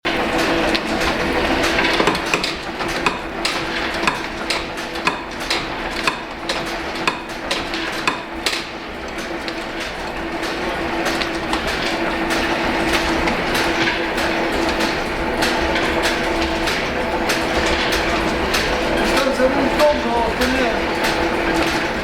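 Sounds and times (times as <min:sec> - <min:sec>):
machinery humming: 0:00.1 - 0:22.0.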